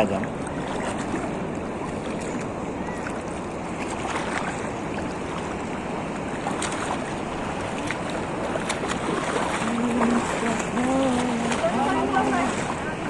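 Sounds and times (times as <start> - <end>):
shallow seawater sloshing: 0.0 - 13.0
small water splashes: 0.0 - 13.0.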